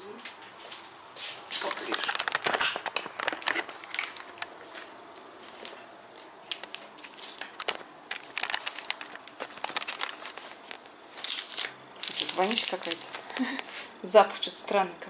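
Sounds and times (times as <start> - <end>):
light crinkling: 0.2 - 14.6.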